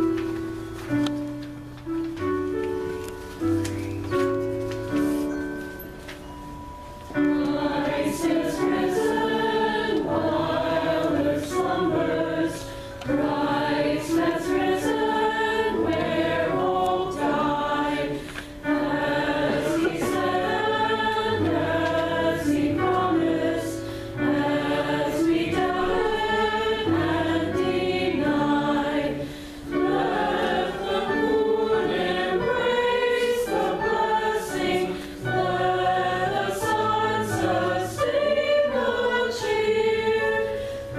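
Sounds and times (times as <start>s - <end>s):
piano accompaniment: 0.0s - 40.9s
congregation singing a hymn: 7.1s - 40.9s.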